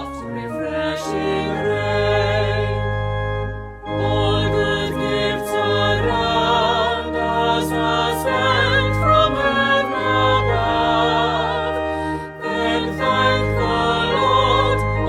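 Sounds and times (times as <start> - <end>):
choir singing: 0.0 - 15.0
organ: 0.0 - 15.0.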